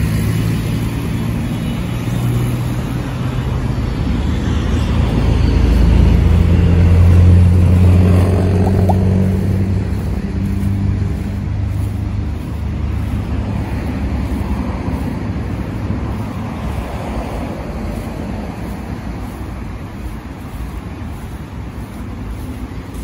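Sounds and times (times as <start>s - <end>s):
traffic noise rushing: 0.0s - 23.0s
vehicle engine humming: 0.0s - 23.0s.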